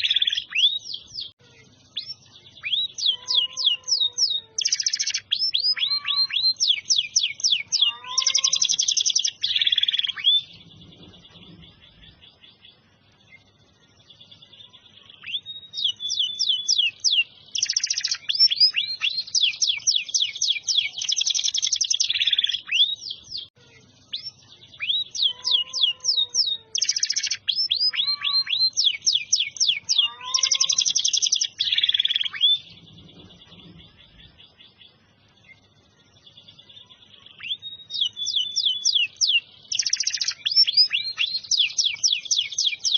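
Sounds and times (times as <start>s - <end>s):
canary singing: 0.0s - 42.9s.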